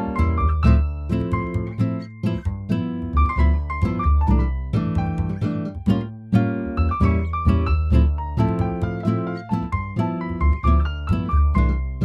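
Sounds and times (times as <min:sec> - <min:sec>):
plucked-string melody: 0:00.0 - 0:12.0
steady bass: 0:00.0 - 0:12.0.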